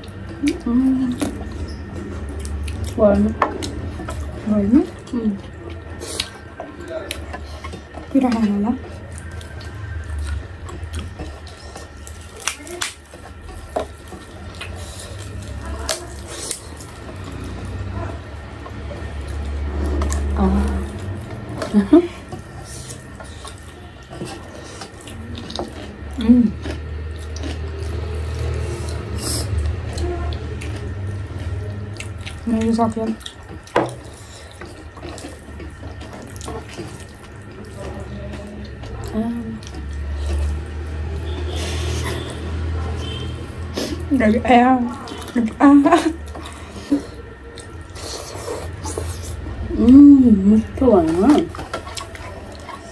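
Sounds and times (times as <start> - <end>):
wet chewing and lip smacks: 0.0 - 17.9, 22.4 - 44.1, 46.2 - 49.6, 51.4 - 52.9
low steady hum: 0.0 - 52.9.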